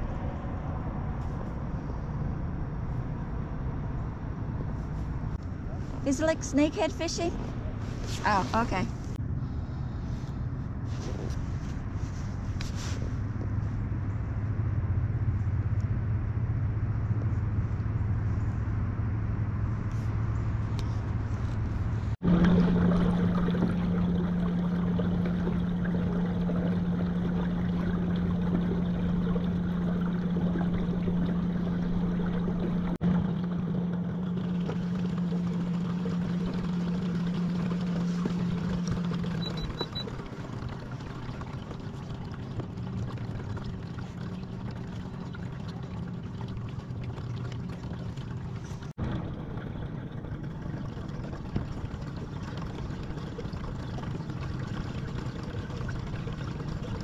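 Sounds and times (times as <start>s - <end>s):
water washing past hull: 0.0s - 57.0s.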